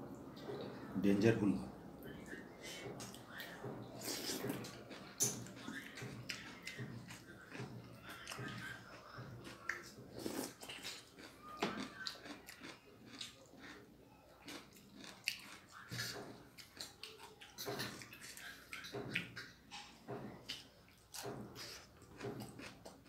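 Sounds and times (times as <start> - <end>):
person chewing food: 2.7 - 23.0.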